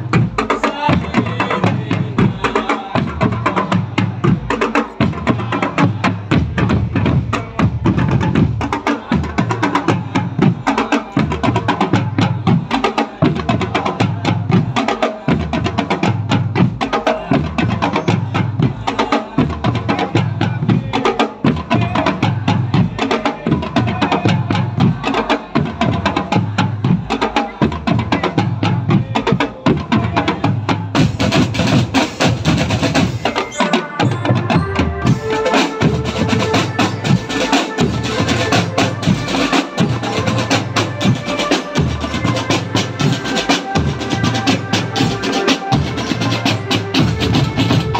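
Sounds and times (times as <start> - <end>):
marching drum band playing: 0.0 - 47.9.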